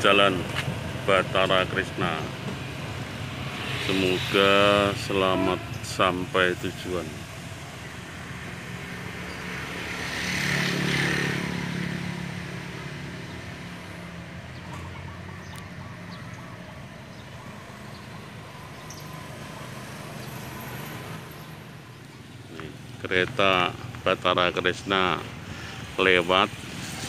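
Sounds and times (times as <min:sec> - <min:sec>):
vehicle passing: 0:02.0 - 0:27.0.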